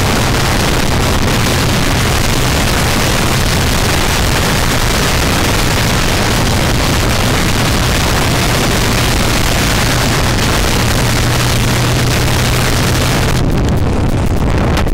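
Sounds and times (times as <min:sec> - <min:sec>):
motorcycle engine cruising: 0:00.0 - 0:14.9
wind rushing on microphone: 0:00.0 - 0:14.9.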